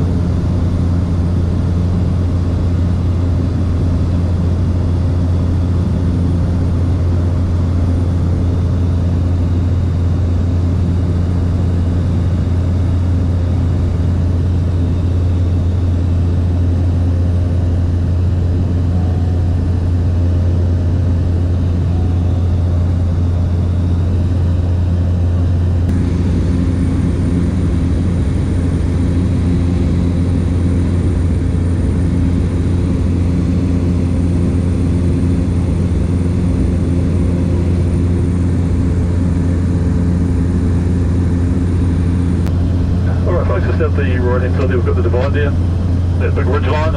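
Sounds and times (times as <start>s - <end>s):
propeller aircraft engine drone: 0.0s - 46.9s.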